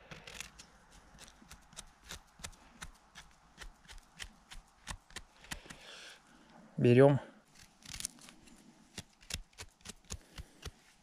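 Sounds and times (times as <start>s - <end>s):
knife scraping mushroom stem: 0.0s - 5.8s, 7.5s - 10.9s.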